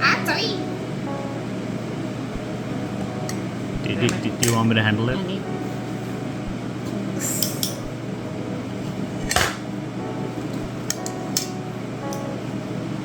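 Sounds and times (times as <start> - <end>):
range hood fan humming: 0.0 - 13.0.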